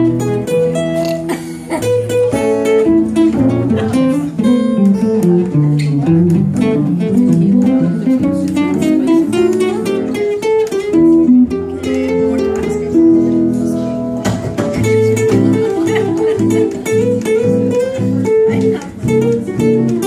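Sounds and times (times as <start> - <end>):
guitar trio playing instrumental: 0.0 - 20.0.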